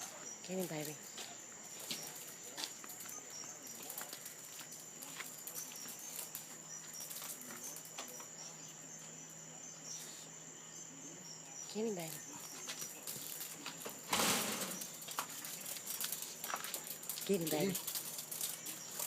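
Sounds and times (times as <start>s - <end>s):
faint low hum: 0.0s - 19.0s
night insect chorus chirring: 0.0s - 19.0s.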